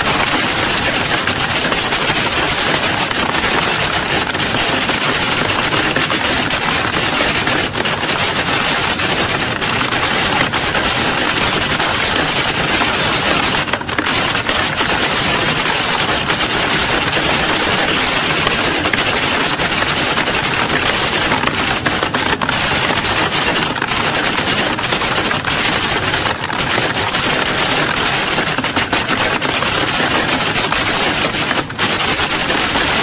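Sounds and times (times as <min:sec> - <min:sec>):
keyboards typing clatter: 0:00.0 - 0:33.0.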